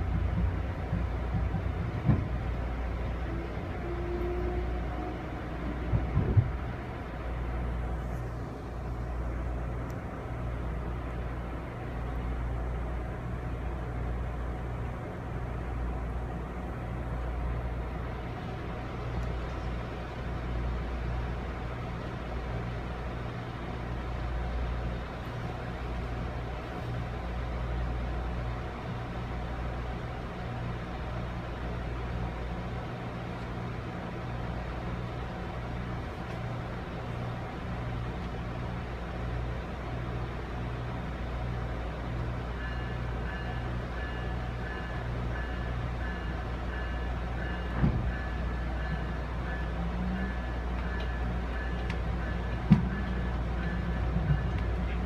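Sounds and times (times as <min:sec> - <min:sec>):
train interior low rumble: 0:00.0 - 0:55.0.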